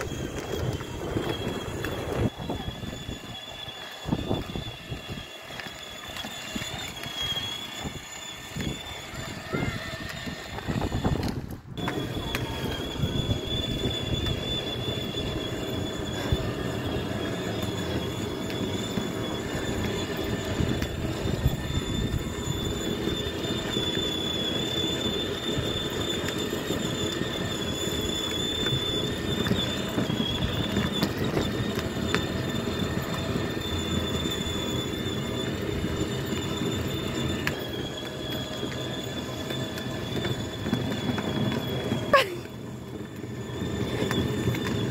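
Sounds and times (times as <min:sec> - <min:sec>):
toy car motor whine: 0:00.0 - 0:44.9
wheels rumbling over asphalt: 0:00.0 - 0:44.9.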